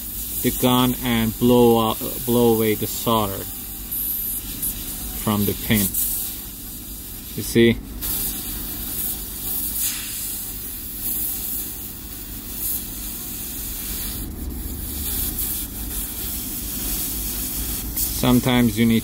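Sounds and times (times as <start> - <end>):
hot air gun hissing: 0.0 - 19.0.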